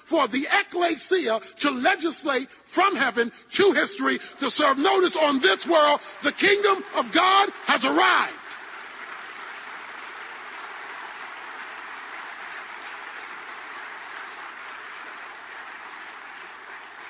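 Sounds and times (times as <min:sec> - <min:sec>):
congregation applauding: 0:00.2 - 0:17.0.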